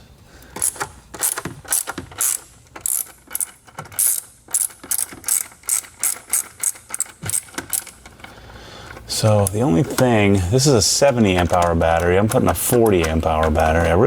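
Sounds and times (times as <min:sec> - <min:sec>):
hand ratchet clicking: 0:00.4 - 0:14.0.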